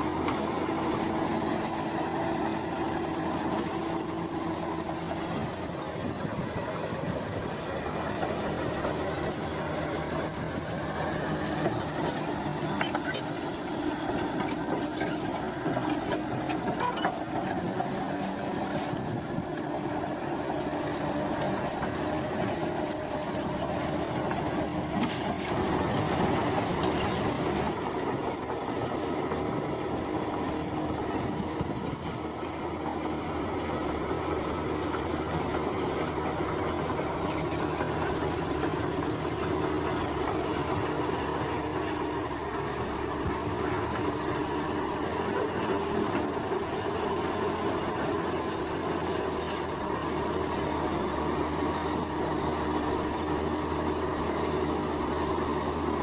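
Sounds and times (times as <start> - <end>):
diesel engine running: 0.0 - 56.0
steel tracks clanking and squealing: 0.0 - 56.0.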